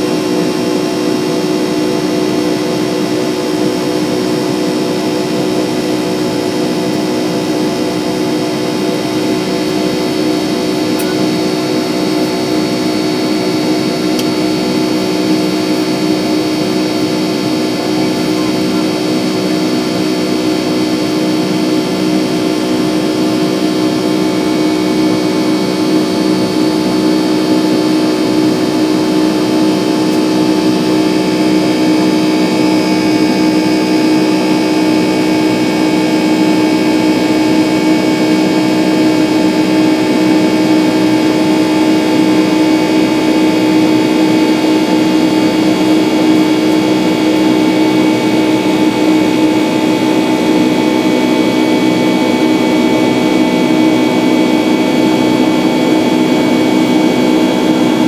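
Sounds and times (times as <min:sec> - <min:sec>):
jet engines humming in cabin: 0:00.0 - 0:58.0.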